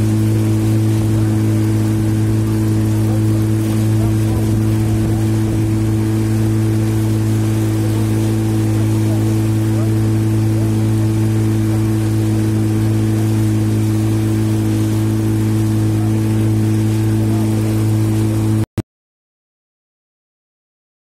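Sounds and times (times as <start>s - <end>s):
boat engine drone: 0.0s - 18.7s
water rushing past boat: 0.0s - 18.7s.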